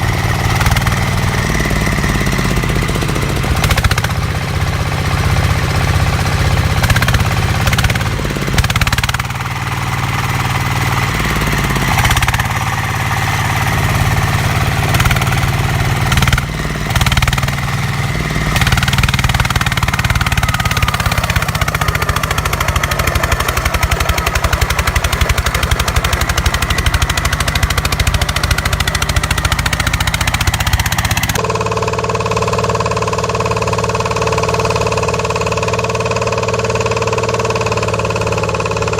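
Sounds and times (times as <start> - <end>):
steady engine running: 0.0 - 38.9
tractor engine knocking: 0.0 - 38.9.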